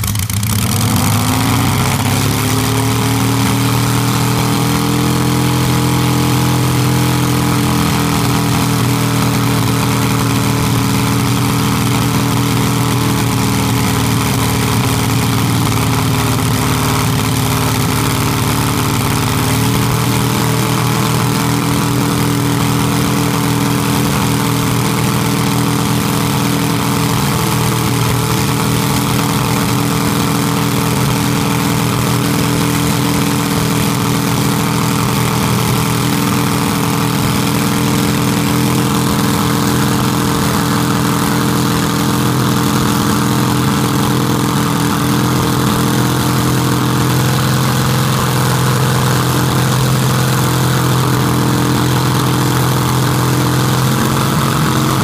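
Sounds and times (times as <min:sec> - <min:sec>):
engine running flat out: 0:00.0 - 0:55.0.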